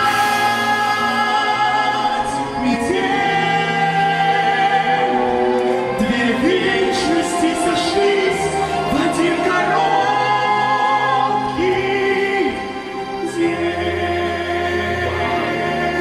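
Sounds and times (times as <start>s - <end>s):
person singing a ballad: 0.0s - 16.0s.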